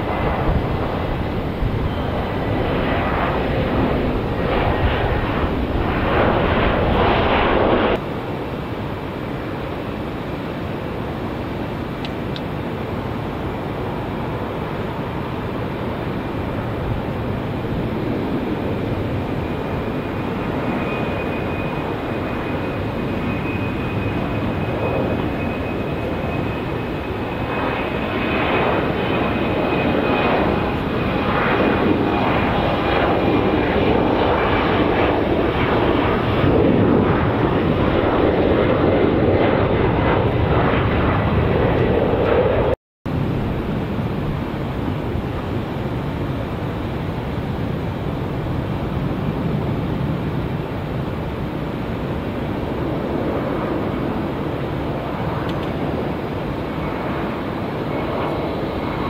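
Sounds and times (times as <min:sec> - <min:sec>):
jet engines roaring and whining: 0:00.0 - 0:59.0.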